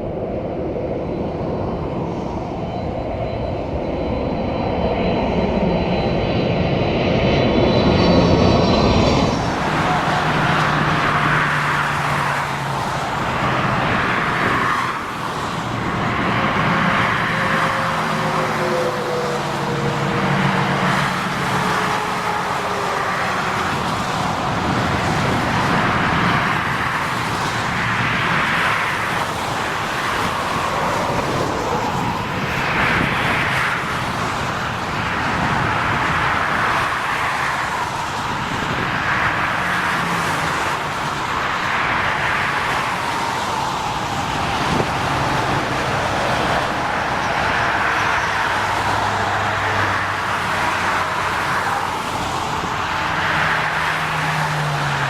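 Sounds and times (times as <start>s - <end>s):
vehicles passing: 7.4s - 55.0s.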